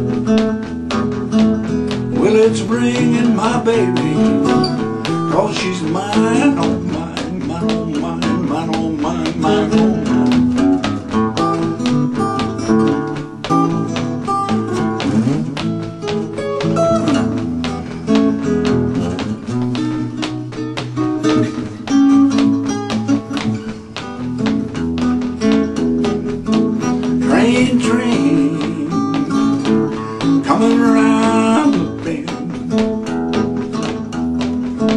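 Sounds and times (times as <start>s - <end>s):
acoustic guitar picking: 0.0s - 34.9s
driving bass line: 0.0s - 34.9s.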